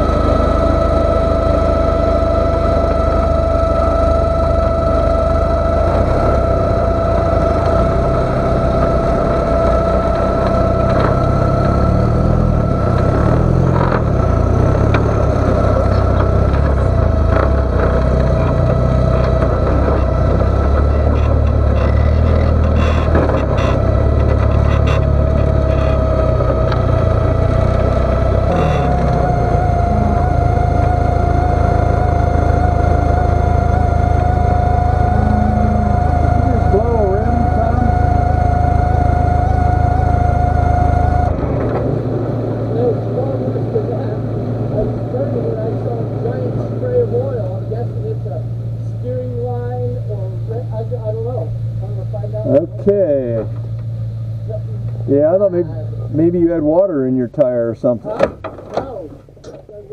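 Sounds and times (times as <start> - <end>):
buggy engine revving under load: 0.0 - 59.9
steady high whine: 0.0 - 59.9.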